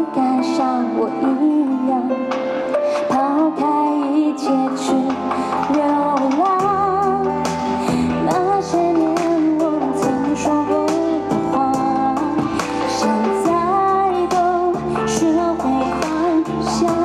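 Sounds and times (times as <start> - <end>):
live pop ballad: 0.0 - 17.0
woman singing: 0.0 - 17.0.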